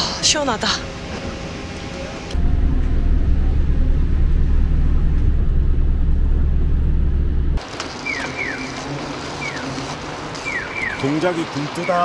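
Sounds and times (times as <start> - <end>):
monorail train rumbling: 0.0 - 10.3.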